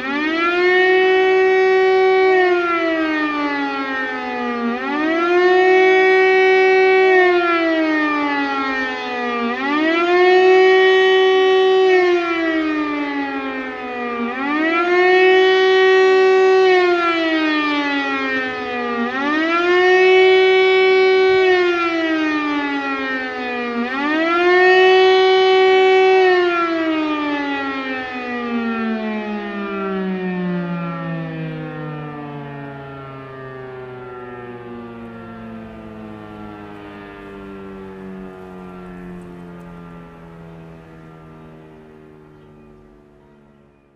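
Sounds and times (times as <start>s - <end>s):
air-raid siren wailing: 0.0s - 43.9s.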